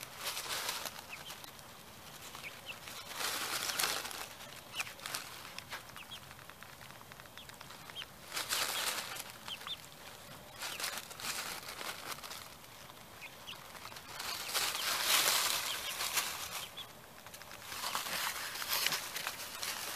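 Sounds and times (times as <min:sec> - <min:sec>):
piglet chewing and crunching: 0:00.0 - 0:19.9
rustling in dry leaves: 0:00.0 - 0:19.9.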